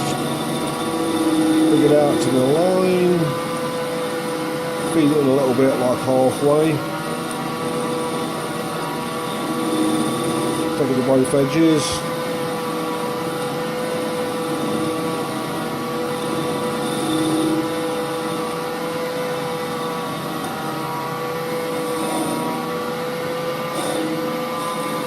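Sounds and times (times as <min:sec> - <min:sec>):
lathe running with a whine: 0:00.0 - 0:25.0.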